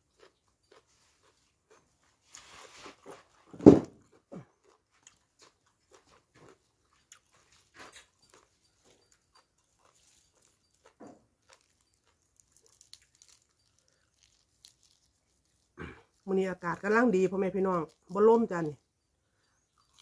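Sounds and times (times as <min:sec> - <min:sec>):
person chewing and crunching: 0:00.0 - 0:03.4, 0:04.0 - 0:20.0.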